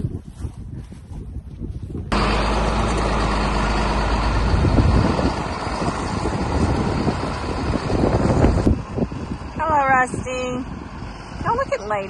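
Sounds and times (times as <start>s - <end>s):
tractor diesel engine running: 2.1s - 12.0s.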